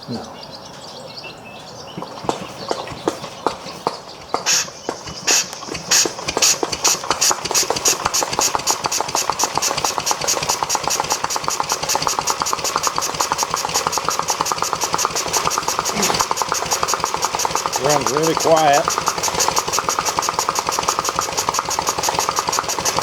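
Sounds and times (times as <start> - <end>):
small engine running: 2.0 - 23.0.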